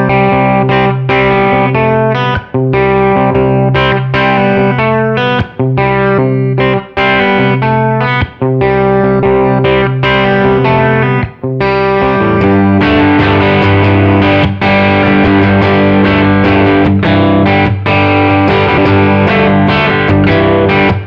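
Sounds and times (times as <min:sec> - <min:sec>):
overdriven electric guitar chords: 0:00.0 - 0:21.0.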